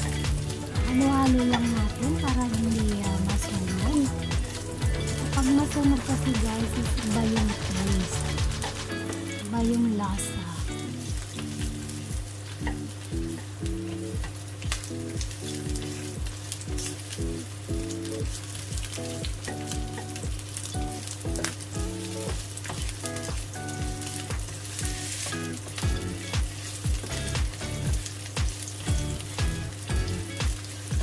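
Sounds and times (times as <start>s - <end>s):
background music with steady beat: 0.0s - 31.0s
garlic and onion sizzling in oil: 0.0s - 31.0s.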